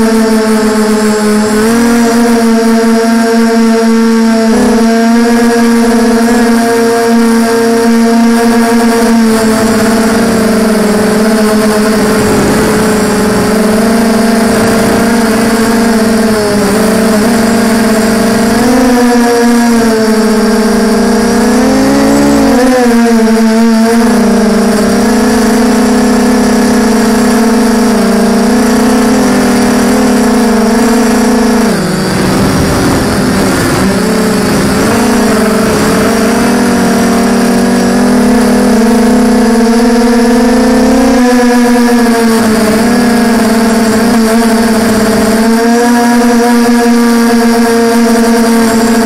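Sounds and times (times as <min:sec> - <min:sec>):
drone motors and propellers whining: 0:00.0 - 0:49.0.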